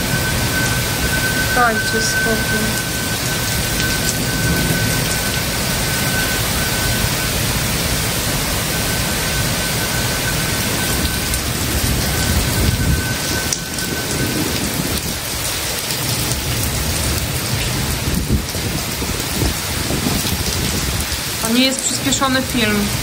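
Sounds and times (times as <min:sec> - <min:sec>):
rolling thunder: 0:00.0 - 0:21.4
heavy rain pouring: 0:00.0 - 0:23.0.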